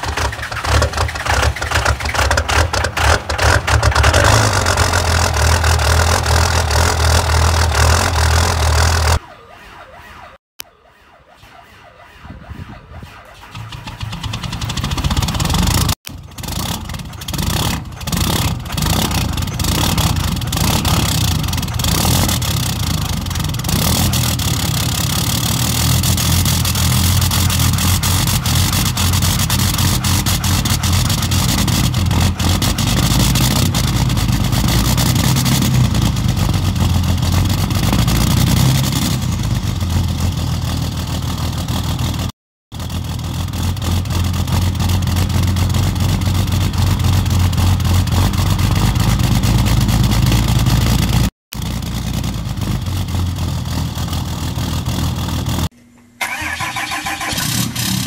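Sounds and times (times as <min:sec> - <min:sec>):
diesel engine starting and idling: 0:00.0 - 0:10.3, 0:11.8 - 0:58.0.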